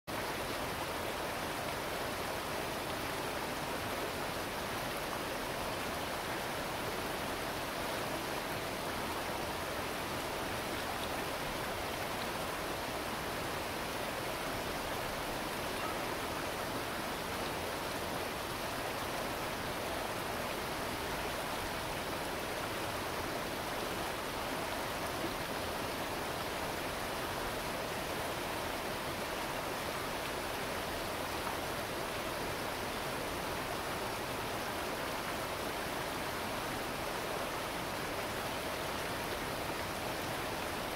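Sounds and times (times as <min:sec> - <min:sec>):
creek water rushing: 0:00.1 - 0:40.9.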